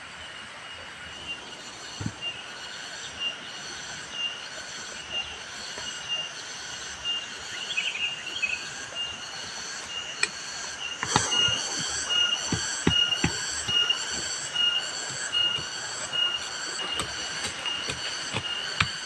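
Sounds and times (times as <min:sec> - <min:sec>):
insects droning: 0:00.5 - 0:19.0.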